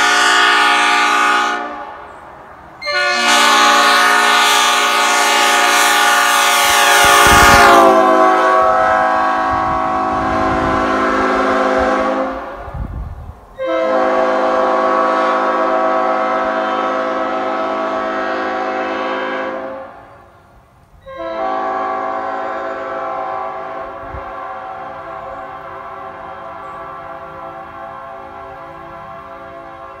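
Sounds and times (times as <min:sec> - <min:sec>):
train horn chord blasts: 0:00.0 - 0:02.2, 0:02.8 - 0:12.8, 0:13.6 - 0:20.4, 0:21.0 - 0:30.0.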